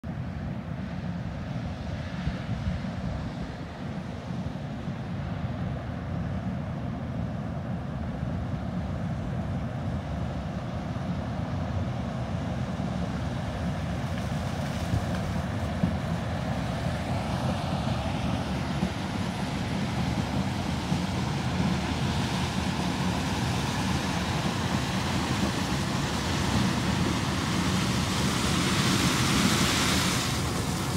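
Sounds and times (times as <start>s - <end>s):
combine harvester engine drone: 0.1s - 30.9s.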